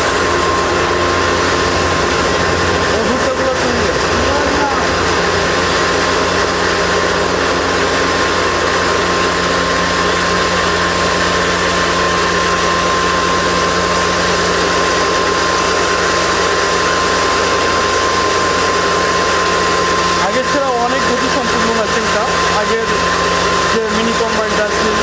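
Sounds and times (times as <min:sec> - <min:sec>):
grain mill running: 0:00.0 - 0:25.0.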